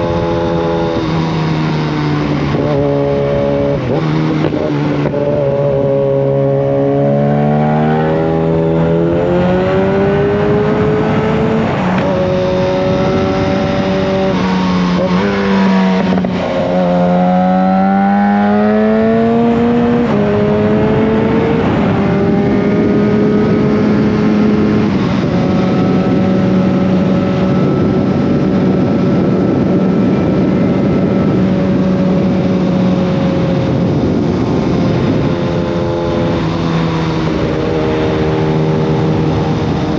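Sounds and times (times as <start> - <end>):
loud motorcycle engine: 0.0 - 39.9.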